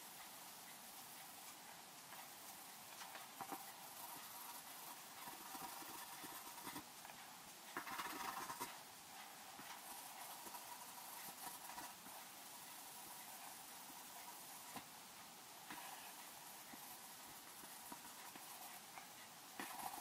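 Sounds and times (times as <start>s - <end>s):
pencil scratching on paper: 2.2s - 6.9s, 7.7s - 14.9s, 15.6s - 20.0s.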